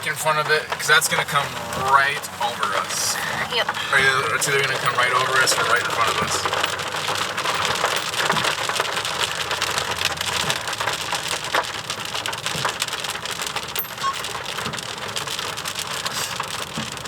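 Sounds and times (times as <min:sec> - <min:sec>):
rain on a car roof: 0:00.0 - 0:17.0.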